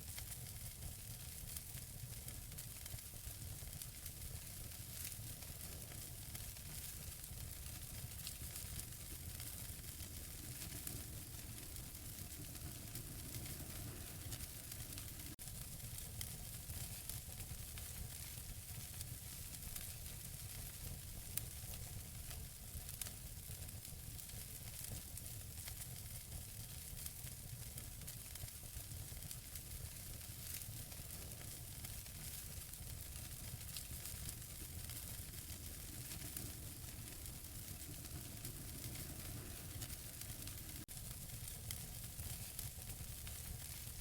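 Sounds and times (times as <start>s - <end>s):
wood fire hissing and crackling: 0.0s - 44.0s.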